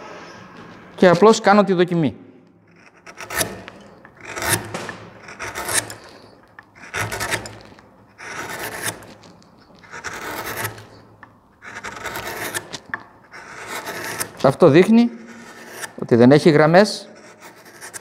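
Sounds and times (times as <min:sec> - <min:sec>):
chisel scraping through wood: 0:02.7 - 0:18.0.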